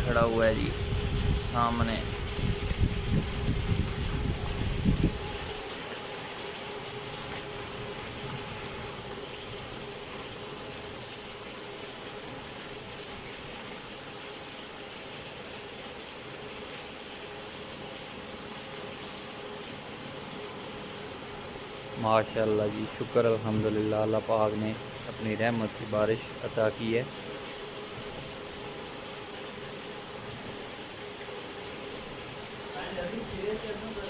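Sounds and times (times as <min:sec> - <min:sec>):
faint steady hum: 0:00.0 - 0:34.0
steady rainfall: 0:00.0 - 0:34.0.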